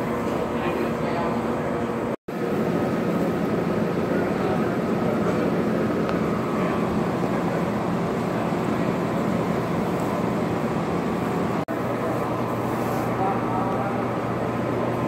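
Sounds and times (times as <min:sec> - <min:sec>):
continuous rushing noise: 0:00.0 - 0:15.0.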